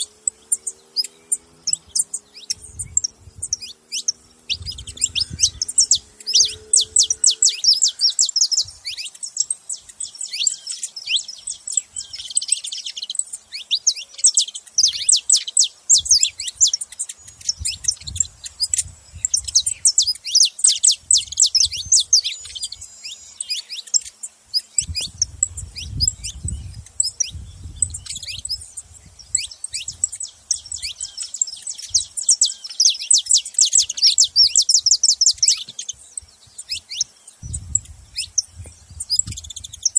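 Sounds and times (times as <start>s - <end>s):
finch chirping: 0.0s - 39.9s.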